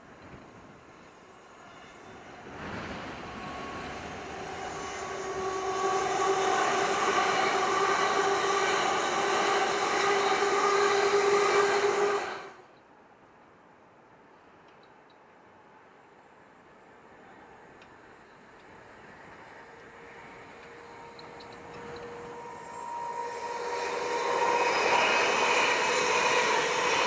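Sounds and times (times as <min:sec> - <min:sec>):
train electric whine: 0:00.0 - 0:12.6, 0:16.8 - 0:27.0
train wheels rushing on rails: 0:00.0 - 0:12.6, 0:17.8 - 0:27.0.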